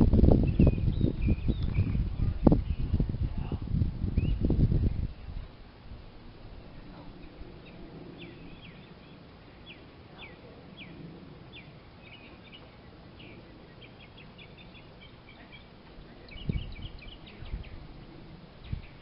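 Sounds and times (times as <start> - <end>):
faint outdoor background noise: 0.0 - 19.0
small birds chirping: 0.2 - 19.0.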